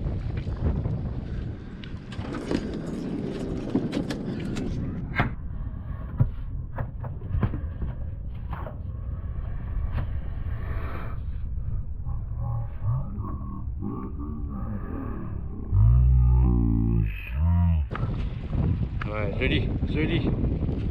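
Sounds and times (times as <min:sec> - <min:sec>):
wind rumbling on microphone: 0:00.0 - 0:20.9.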